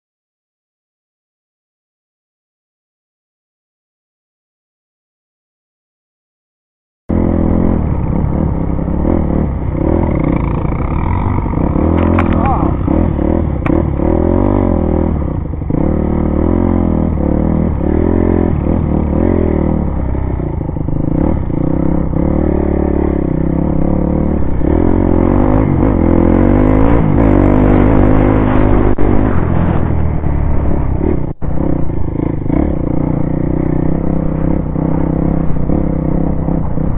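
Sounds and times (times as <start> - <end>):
dirt bike engine revving: 7.1 - 36.9.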